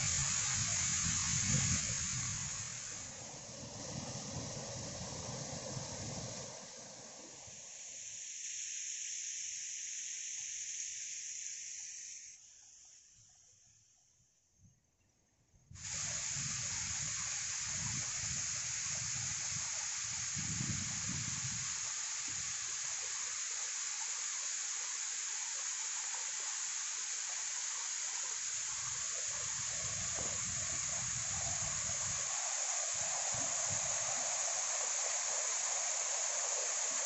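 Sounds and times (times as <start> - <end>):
waterfall rushing into a pool: 0.0 - 12.3, 15.8 - 37.0.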